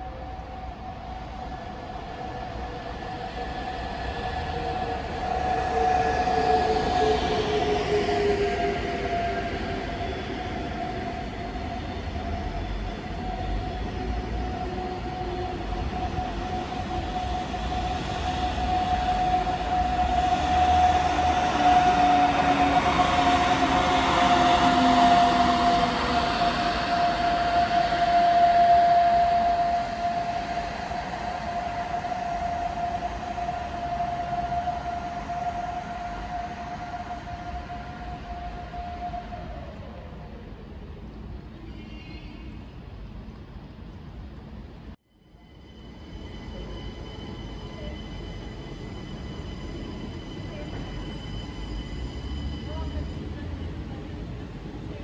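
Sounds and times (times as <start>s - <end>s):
steady high tone: 0.0s - 41.0s, 45.1s - 55.0s
wheels rumbling on rails: 0.0s - 45.0s, 46.0s - 55.0s
electric train whine: 0.0s - 55.0s.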